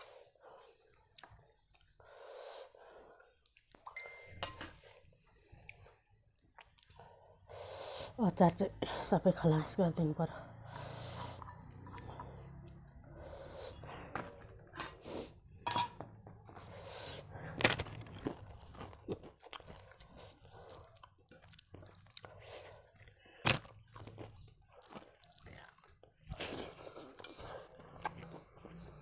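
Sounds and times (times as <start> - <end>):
person chewing and crunching food: 0.0 - 2.1, 2.8 - 3.8, 4.8 - 7.2, 10.8 - 29.0.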